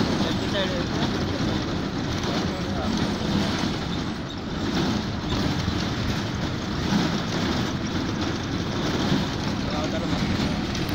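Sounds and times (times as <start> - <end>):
bus engine rumble: 0.0 - 10.9.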